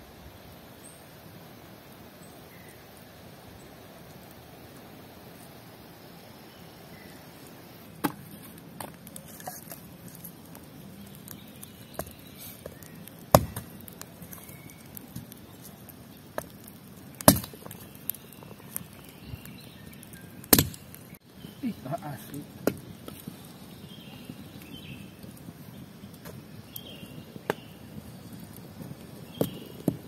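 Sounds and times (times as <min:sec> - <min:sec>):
faint outdoor background: 0:00.0 - 0:30.0.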